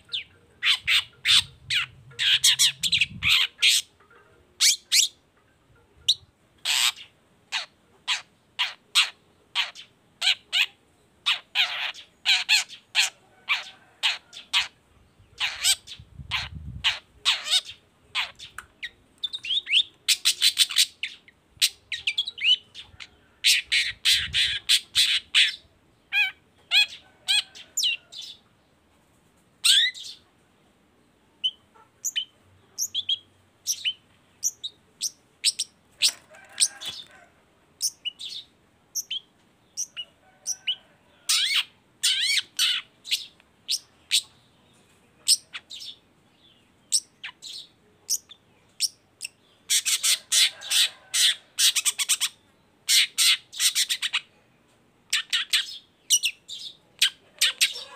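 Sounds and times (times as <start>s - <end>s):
bird chirping song: 0.0s - 37.2s, 37.8s - 57.9s.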